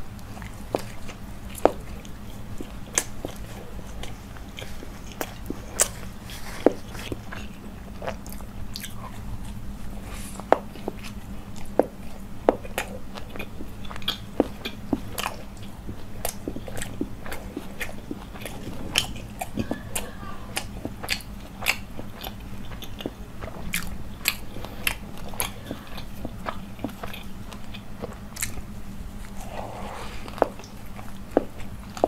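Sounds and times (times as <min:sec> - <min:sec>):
biting and chewing food: 0:00.0 - 0:32.0
faint low hum: 0:00.0 - 0:32.0.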